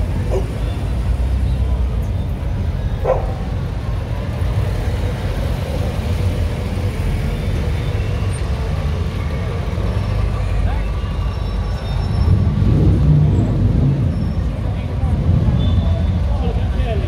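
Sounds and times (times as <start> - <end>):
car engines running at low revs: 0.0 - 17.0.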